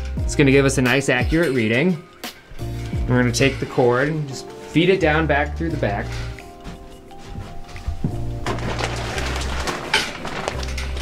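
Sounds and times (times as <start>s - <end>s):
background music with low bass: 0.0s - 11.0s.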